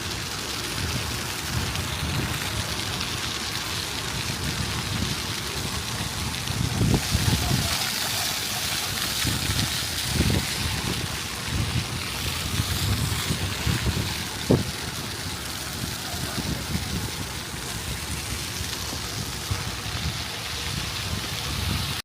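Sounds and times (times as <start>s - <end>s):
wind rumbling on microphone: 0.1s - 22.0s.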